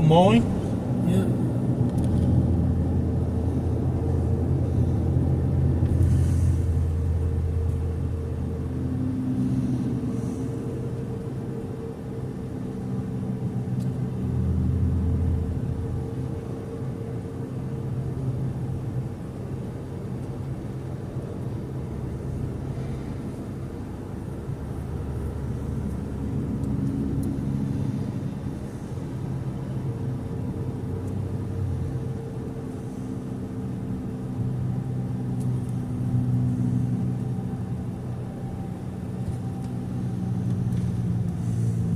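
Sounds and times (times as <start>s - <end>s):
car engine hum: 0.0s - 41.9s
road rumble: 0.0s - 41.9s.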